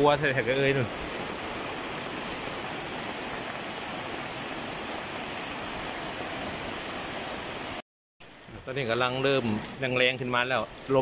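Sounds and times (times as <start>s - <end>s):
rainwater pouring and splashing: 0.0s - 11.0s.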